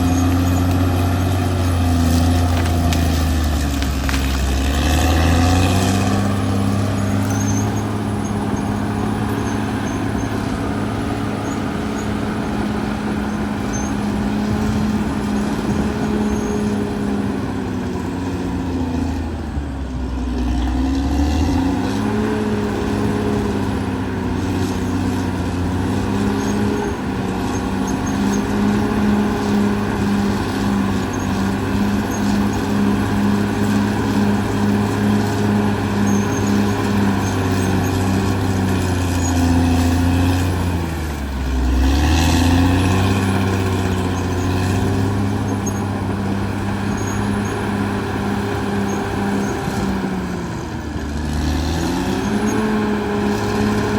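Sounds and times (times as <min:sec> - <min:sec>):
bulldozer diesel engine: 0:00.0 - 0:53.9.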